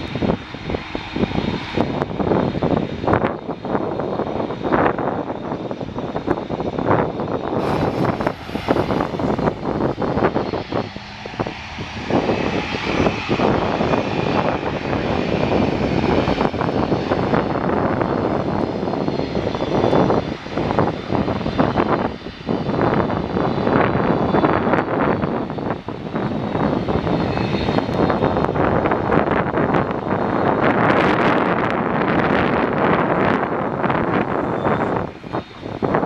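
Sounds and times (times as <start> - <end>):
high engine whine: 0.0 - 36.0
jet engines roaring: 0.0 - 36.0.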